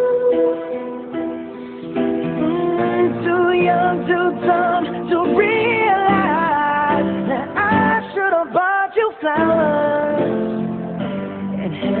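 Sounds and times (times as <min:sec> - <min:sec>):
guitar accompaniment: 0:00.0 - 0:12.0
person singing pop ballad: 0:00.0 - 0:12.0.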